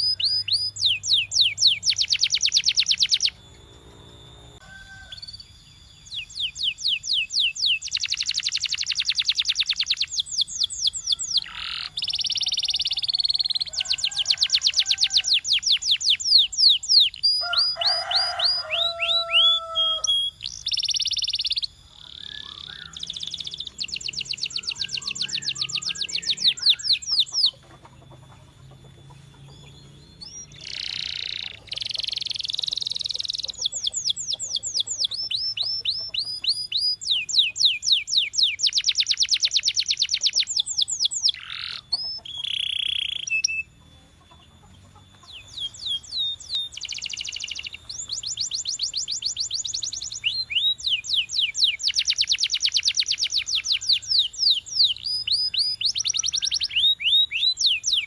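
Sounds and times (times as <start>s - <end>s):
canary trilling song: 0.0s - 58.0s.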